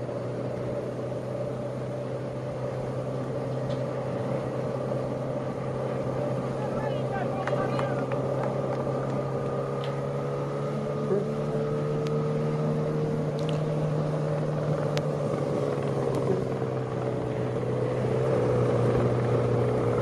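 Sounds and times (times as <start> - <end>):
motorcycle engine droning: 0.0 - 20.0.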